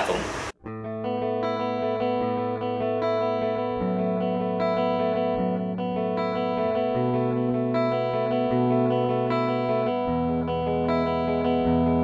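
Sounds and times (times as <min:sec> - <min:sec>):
clean electric guitar chords: 0:00.6 - 0:12.0.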